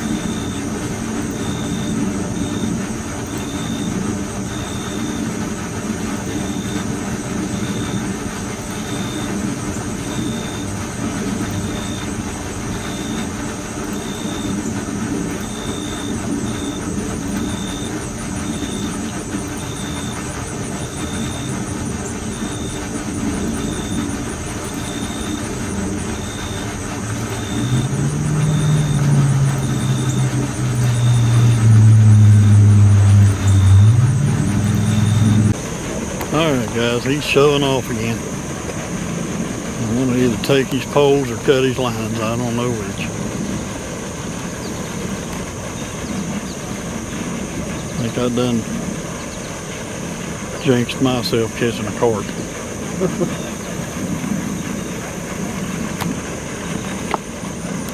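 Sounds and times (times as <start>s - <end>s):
engine drone: 0.0s - 57.9s
mechanical hum: 0.0s - 57.9s.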